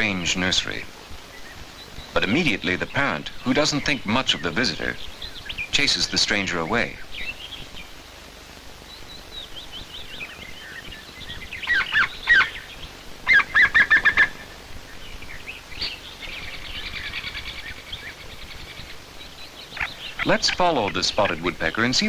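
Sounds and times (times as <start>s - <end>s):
woodpecker chattering: 0.0s - 8.0s, 8.9s - 22.0s
woodpeckers calling: 0.0s - 22.0s.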